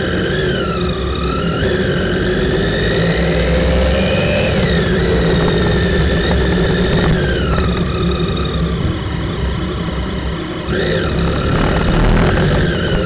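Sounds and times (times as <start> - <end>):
low road rumble: 0.0 - 13.0
motorcycle engine accelerating: 0.0 - 13.0.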